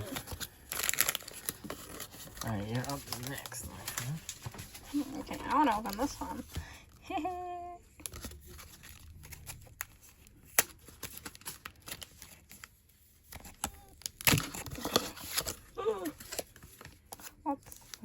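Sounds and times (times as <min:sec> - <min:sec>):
foil pack crinkling and tearing: 0:00.0 - 0:06.4, 0:08.0 - 0:18.0.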